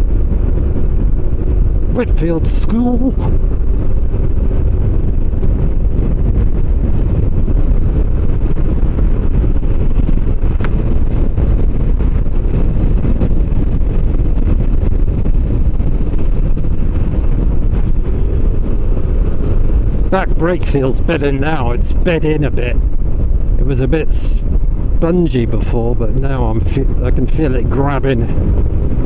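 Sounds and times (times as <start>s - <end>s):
motorcycle engine running: 0.0s - 23.7s
wind noise on microphone: 0.0s - 29.0s.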